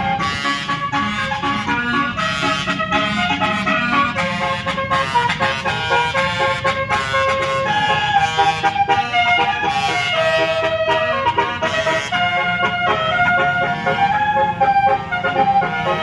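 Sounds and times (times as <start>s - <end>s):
multi-tone musical horn tune: 0.0s - 16.0s.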